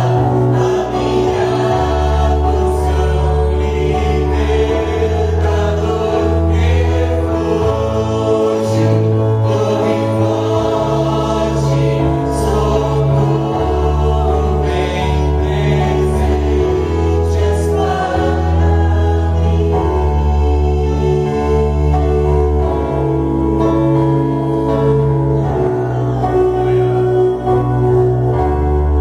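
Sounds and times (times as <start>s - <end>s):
group singing a hymn: 0.0s - 29.0s.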